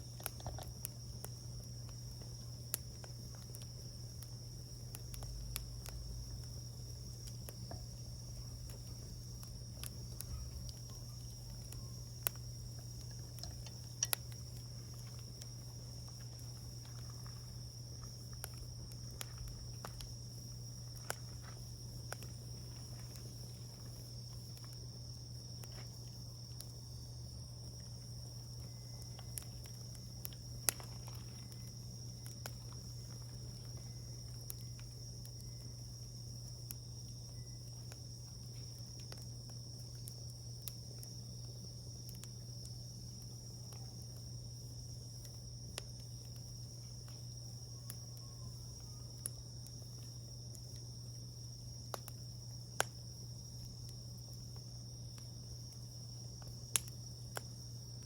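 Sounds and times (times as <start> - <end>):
high-pitched insect trill: 0.0 - 58.0
wood fire crackling: 0.0 - 58.0.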